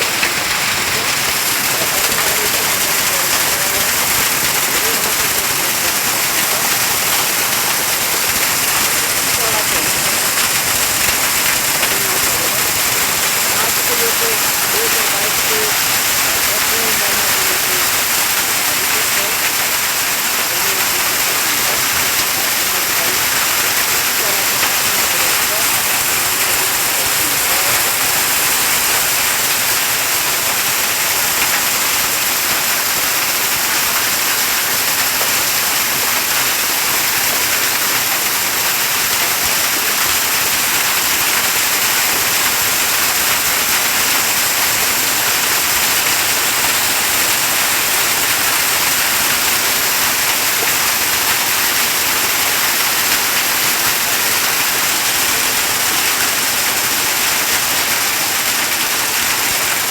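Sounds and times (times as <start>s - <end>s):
heavy rain and hail: 0.0s - 59.9s.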